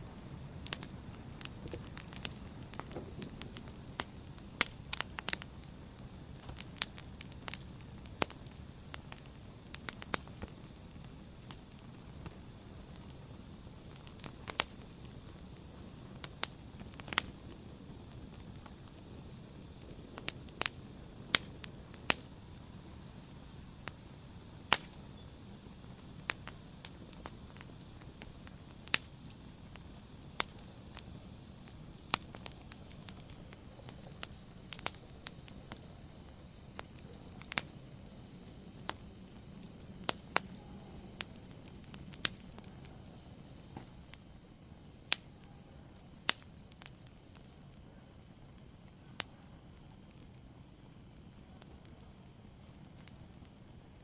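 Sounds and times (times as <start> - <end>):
soft steady hiss: 0.0 - 54.0
wood fire crackling and popping: 0.0 - 54.0.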